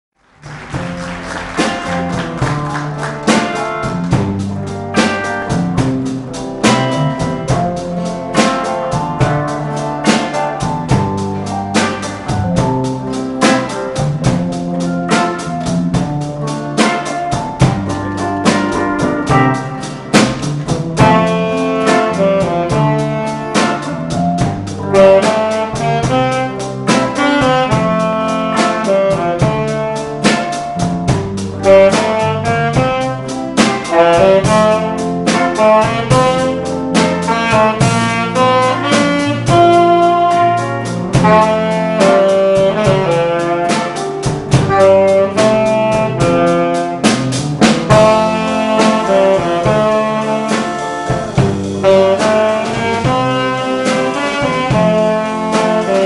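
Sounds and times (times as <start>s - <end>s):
bass: 0.1s - 56.0s
drum kit beat: 0.2s - 56.0s
electric guitar: 0.2s - 56.0s
keyboard: 0.4s - 56.0s
saxophone: 0.4s - 56.0s.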